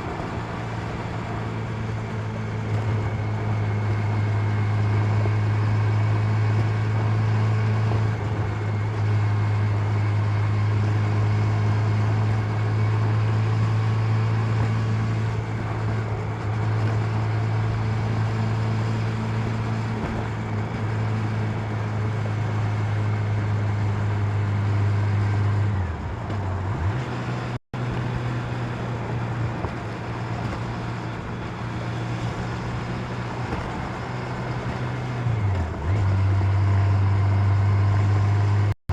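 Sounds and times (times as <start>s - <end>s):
engine running with deep hum: 0.0s - 38.8s.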